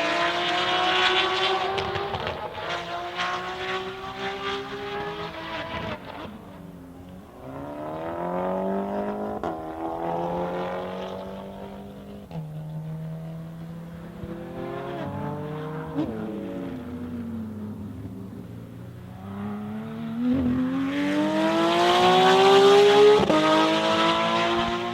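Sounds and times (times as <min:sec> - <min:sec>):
sports car engine accelerating: 0:00.0 - 0:24.9.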